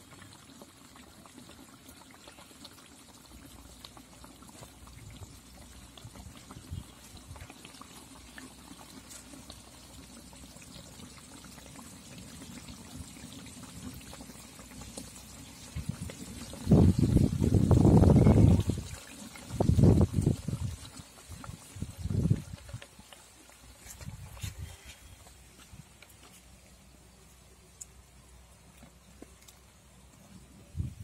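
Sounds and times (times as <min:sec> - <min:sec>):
curry bubbling in a pot: 0:00.0 - 0:31.0.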